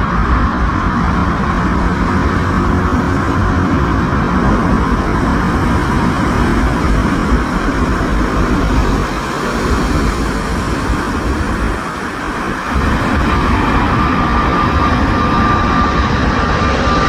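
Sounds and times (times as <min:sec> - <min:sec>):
high whine: 0:00.0 - 0:17.0
jet engines rushing and rumbling: 0:00.0 - 0:17.0.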